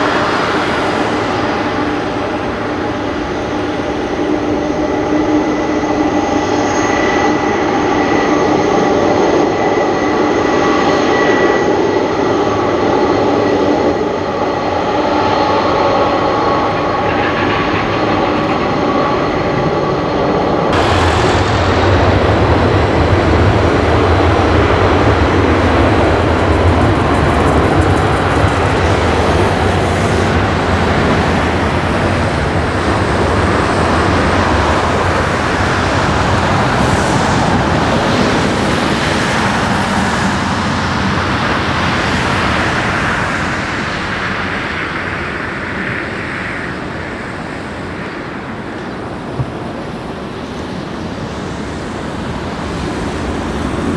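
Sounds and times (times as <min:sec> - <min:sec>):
jet engine roar: 0:00.0 - 0:53.9
jet engines whining: 0:00.0 - 0:53.9.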